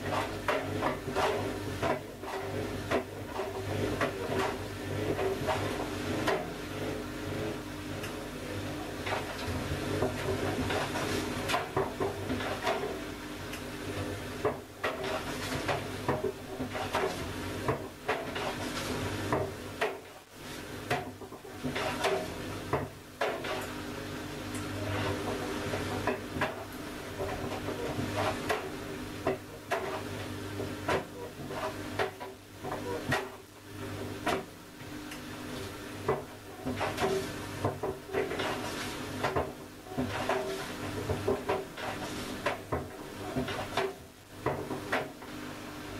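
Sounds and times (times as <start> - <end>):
washing machine motor hum: 0.0 - 45.9.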